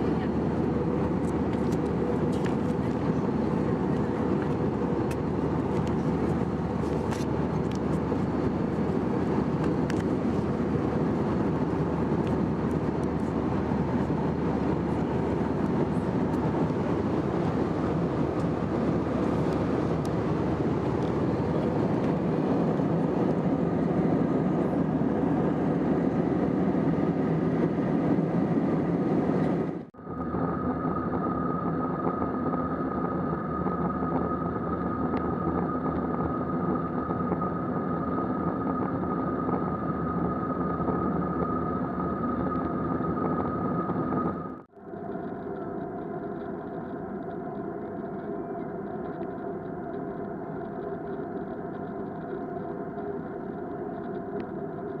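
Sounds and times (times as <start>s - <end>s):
airliner cabin hum: 0.0s - 55.0s.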